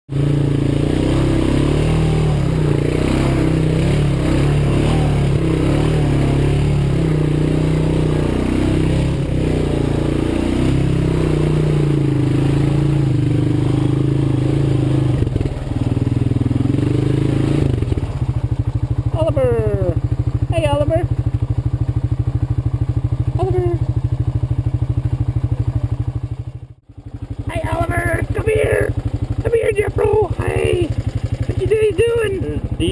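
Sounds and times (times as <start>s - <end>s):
atv engine running: 0.1s - 32.9s.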